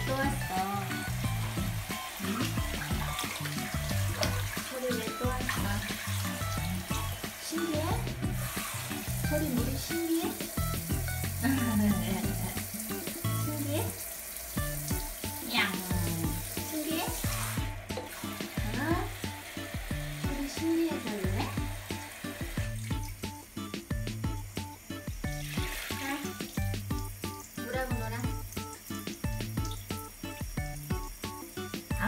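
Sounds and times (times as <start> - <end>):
shower water spraying: 0.0 - 32.0.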